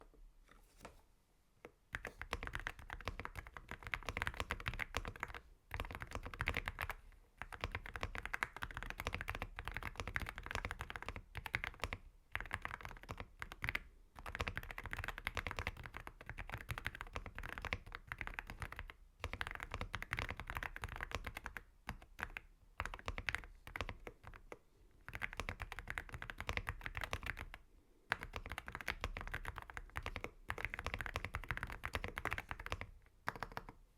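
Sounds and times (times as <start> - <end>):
mechanical keyboard typing: 1.9 - 24.5, 25.1 - 33.8.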